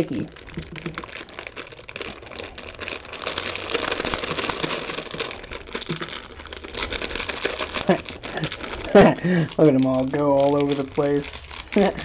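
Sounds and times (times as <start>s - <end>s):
plastic pouch crinkling: 0.0s - 12.0s.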